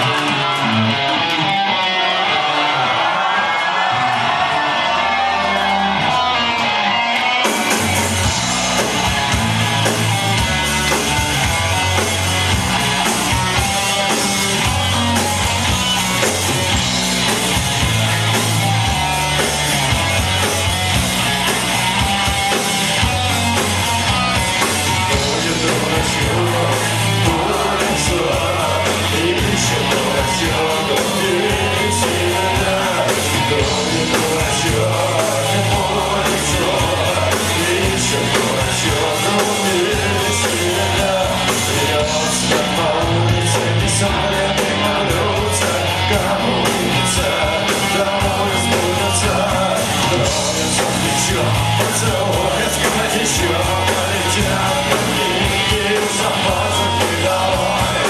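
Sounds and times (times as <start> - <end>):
electric guitar: 0.0 - 58.0
drums and bass beat: 2.9 - 58.0.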